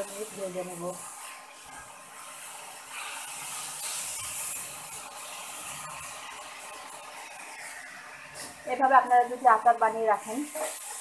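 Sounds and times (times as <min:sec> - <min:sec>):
wooden spatula scraping a pan: 0:00.0 - 0:08.9, 0:10.2 - 0:11.0
fruit sizzling in a wok: 0:00.0 - 0:11.0.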